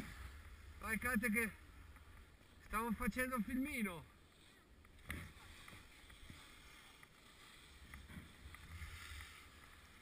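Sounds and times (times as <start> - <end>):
skis sliding over snow: 0.0 - 10.0.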